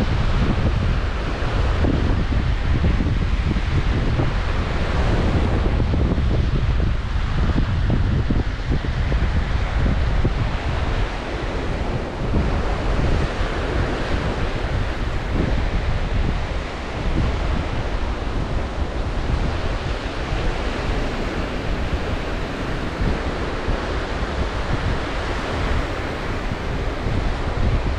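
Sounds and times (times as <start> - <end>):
waves washing onto shore: 0.0 - 27.9
wind buffeting microphone: 0.0 - 27.9.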